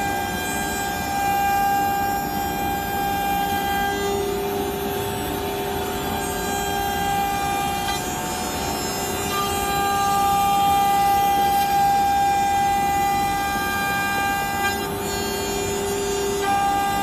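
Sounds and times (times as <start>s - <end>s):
router spindle whine: 0.0s - 17.0s.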